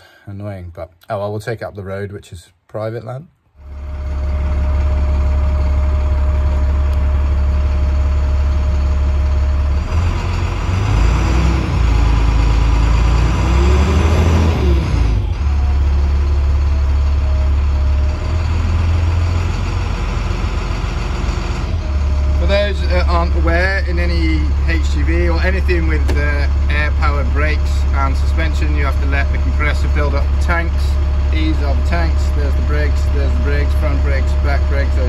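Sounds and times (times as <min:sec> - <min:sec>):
air compressor whine: 0:03.6 - 0:35.0
bus diesel engine idling: 0:03.6 - 0:35.0.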